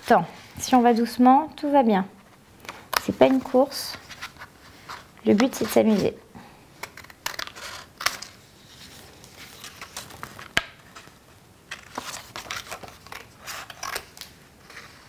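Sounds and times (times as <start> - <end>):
paper rustling: 2.3 - 6.2, 6.8 - 15.0.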